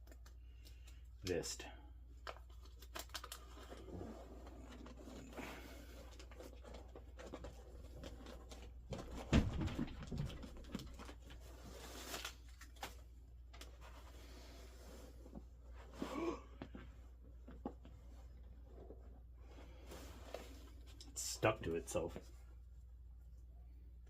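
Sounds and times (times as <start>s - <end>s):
rustling and crinkling of handling: 0.0s - 23.5s.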